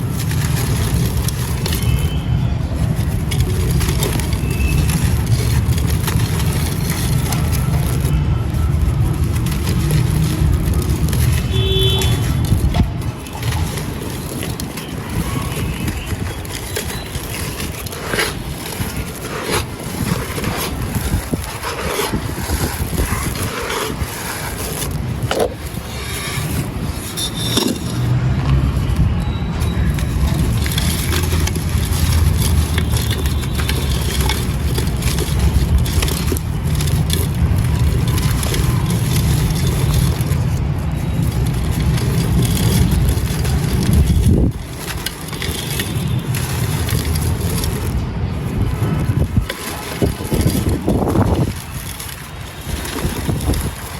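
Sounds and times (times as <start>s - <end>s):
sand and clay crunching: 0.0s - 53.9s.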